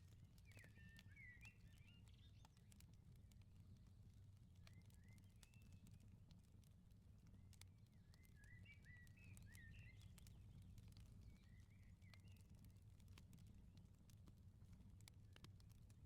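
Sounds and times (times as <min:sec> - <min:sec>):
firepit crackling and popping: 0:00.0 - 0:16.0.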